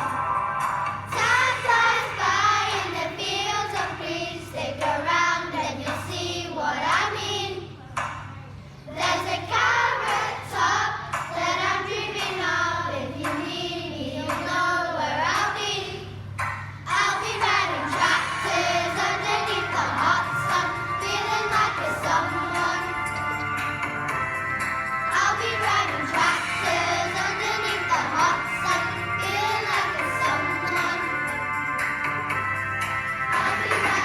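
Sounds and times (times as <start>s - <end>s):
children singing together: 1.0s - 7.7s, 8.9s - 23.6s, 25.1s - 31.8s, 33.3s - 34.0s.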